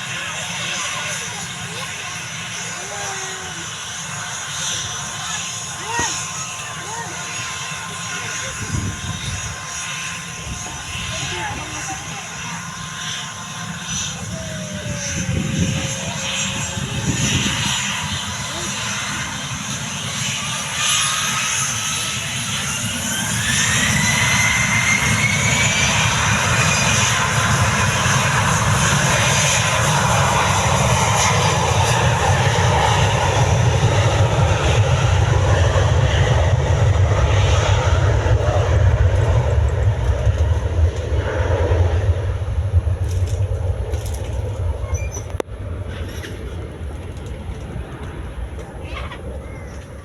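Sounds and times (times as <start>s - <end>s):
jet engines spooling up: 0.0s - 50.0s
jet taking off: 0.0s - 50.0s.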